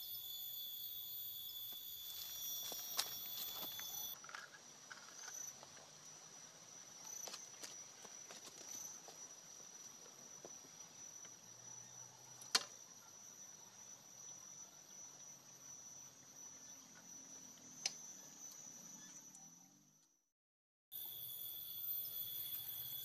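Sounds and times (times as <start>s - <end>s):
insects trilling: 0.0s - 19.7s, 21.0s - 23.0s.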